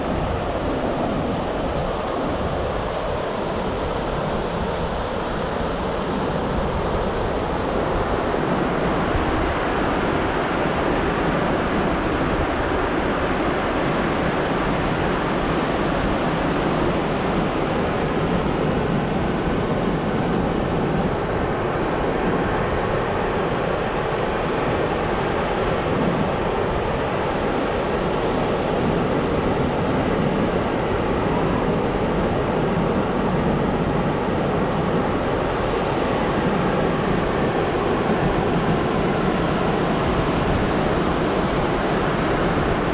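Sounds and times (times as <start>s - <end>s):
ocean surf washing onto beach: 0.0s - 42.9s
wind on microphone: 0.0s - 42.9s.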